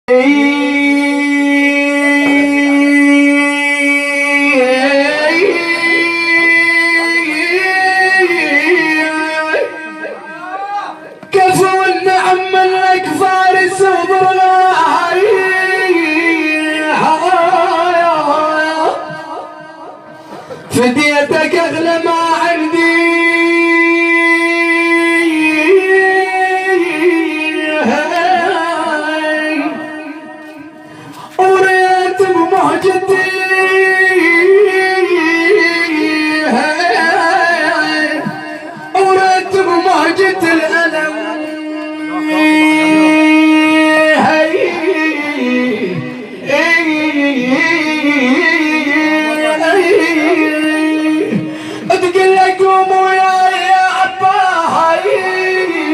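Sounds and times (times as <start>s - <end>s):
man chanting mournfully: 0.1s - 55.9s.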